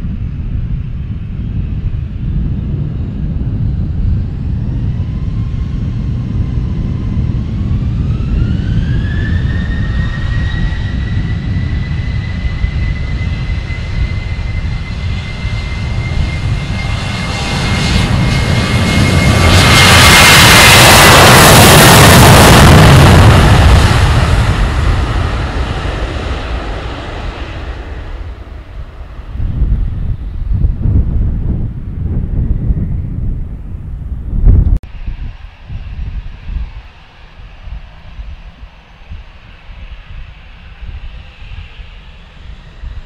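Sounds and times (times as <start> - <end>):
jet engine whine: 0.0 - 43.0.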